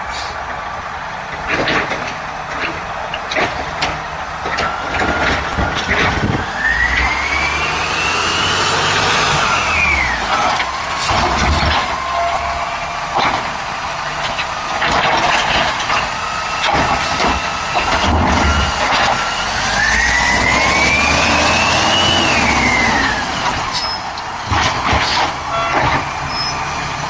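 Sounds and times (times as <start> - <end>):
garbage truck whine and rumble: 0.0 - 27.0
knocks and creaks: 1.3 - 7.2, 9.0 - 21.4, 22.4 - 26.9.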